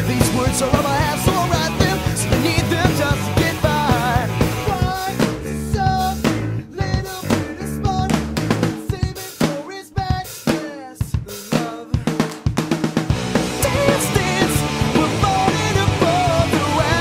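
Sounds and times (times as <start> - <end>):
drum kit beat: 0.0 - 17.0
rock song: 0.0 - 17.0.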